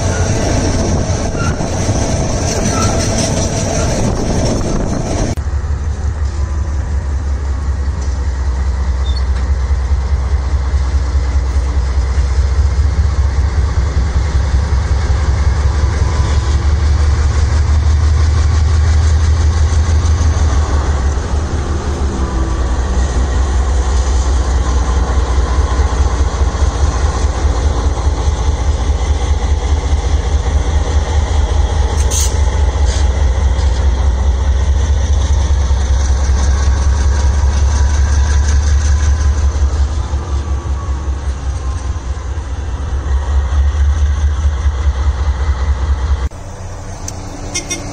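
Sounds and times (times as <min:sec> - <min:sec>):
locomotive engine rumbling: 0:00.0 - 0:47.9.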